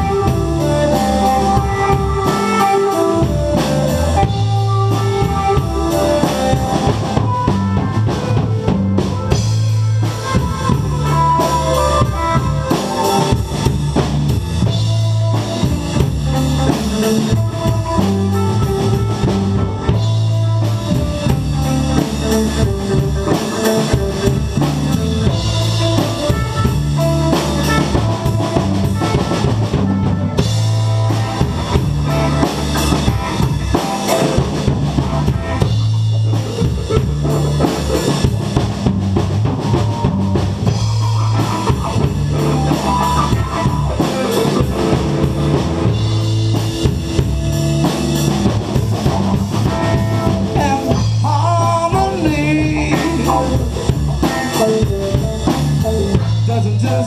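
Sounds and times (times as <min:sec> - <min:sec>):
drum kit: 0:00.0 - 0:57.0
electric bass line: 0:00.0 - 0:57.0
electric guitar: 0:00.0 - 0:57.0.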